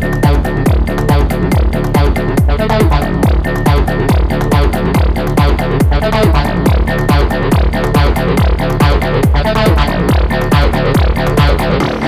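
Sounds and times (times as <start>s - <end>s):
dense synth bed: 0.0s - 12.0s
kick drum with falling pitch: 0.0s - 12.0s.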